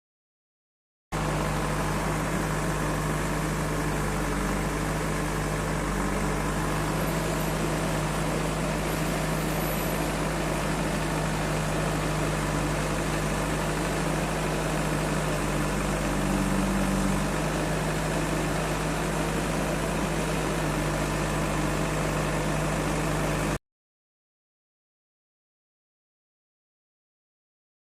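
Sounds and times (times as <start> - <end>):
diesel engine idling: 1.2 - 23.6.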